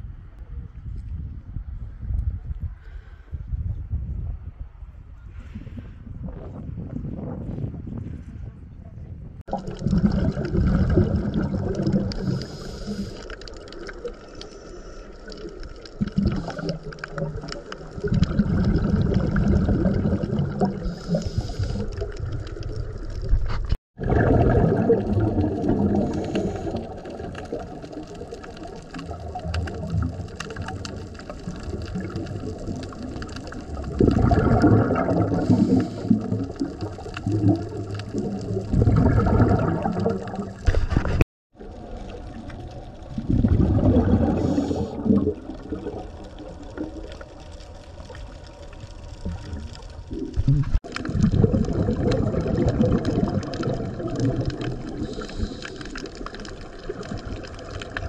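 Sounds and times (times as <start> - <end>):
dull water noise: 9.2 - 58.0
underwater exhaust bubbles: 9.4 - 58.0.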